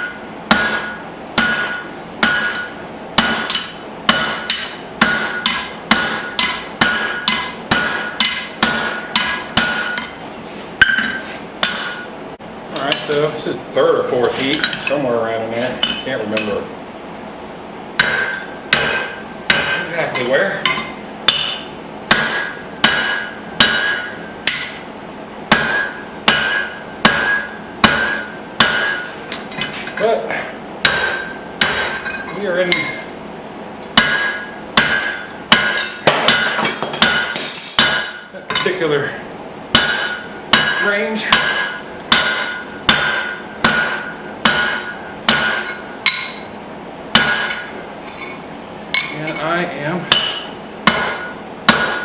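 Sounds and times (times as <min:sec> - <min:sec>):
hammer striking steel on anvil: 0:00.0 - 0:10.2, 0:10.8 - 0:12.1, 0:15.7 - 0:16.7, 0:18.0 - 0:24.9, 0:25.5 - 0:30.0, 0:30.8 - 0:33.1, 0:33.9 - 0:38.8, 0:39.7 - 0:52.0.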